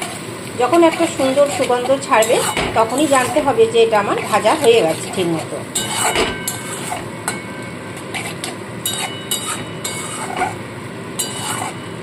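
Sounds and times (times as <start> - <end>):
paste sizzling in a pan: 0.0 - 12.0
metal spatula scraping pan: 0.8 - 10.6, 11.2 - 12.0.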